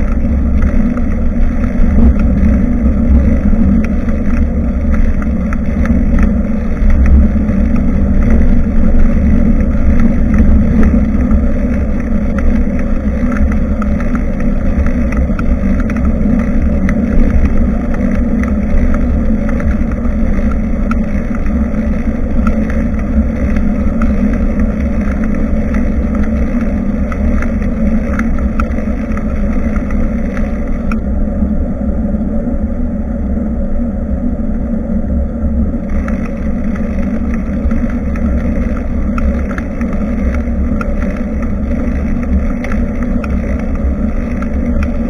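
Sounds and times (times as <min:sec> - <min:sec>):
small ticks: 0:00.0 - 0:31.1, 0:35.8 - 0:45.0
road noise: 0:00.0 - 0:34.3, 0:35.1 - 0:45.0
wind rumble on microphone: 0:00.0 - 0:45.0.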